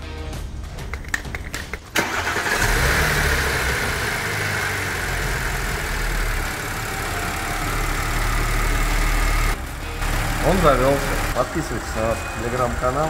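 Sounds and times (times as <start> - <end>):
car engine idling: 1.9 - 13.0.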